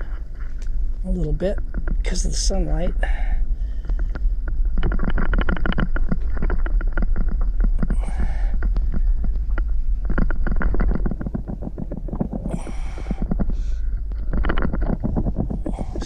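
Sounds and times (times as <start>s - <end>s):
dense crackling clicks: 0.0s - 16.0s
low underwater rumble: 0.0s - 16.0s.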